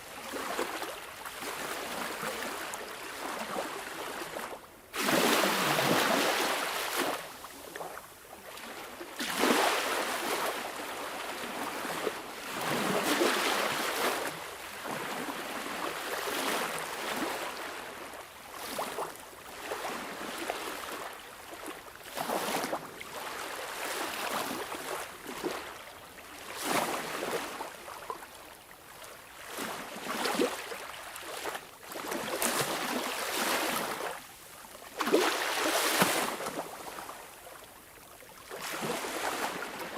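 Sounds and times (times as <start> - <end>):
small sea waves washing in: 0.2 - 39.9.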